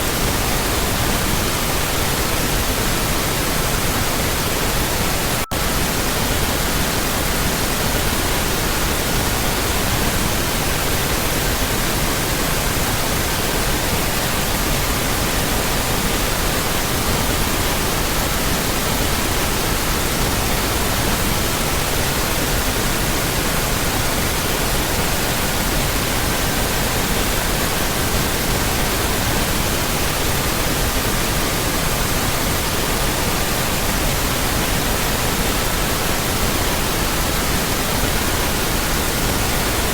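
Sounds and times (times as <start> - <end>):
pink noise: 0.0 - 39.9.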